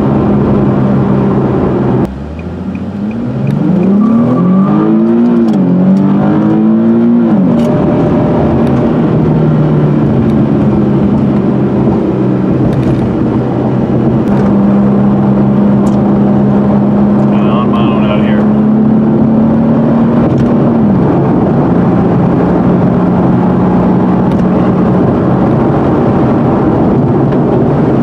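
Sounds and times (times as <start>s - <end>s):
car engine accelerating: 0.0s - 28.0s
road and wind noise: 0.0s - 28.0s.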